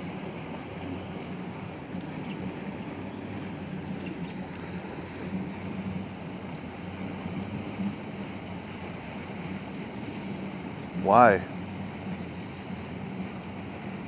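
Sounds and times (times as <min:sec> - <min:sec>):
distant outboard motor drone: 0:00.0 - 0:14.0.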